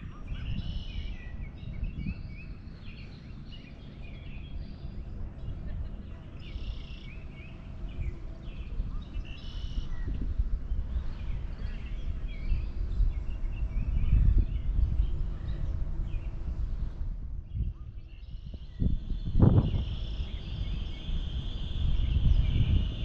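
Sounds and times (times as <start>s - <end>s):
loud uneven low rumble: 0.0s - 23.0s
small birds chirping: 0.0s - 23.0s.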